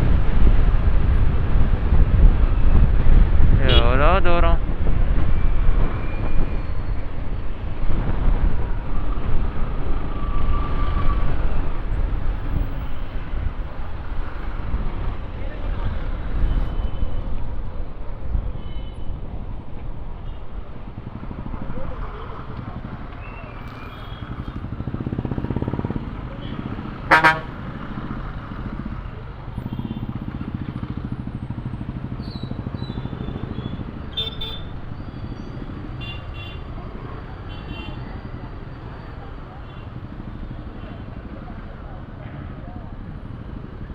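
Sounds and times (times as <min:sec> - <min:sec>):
traffic and road noise rumble: 0:00.0 - 0:43.9.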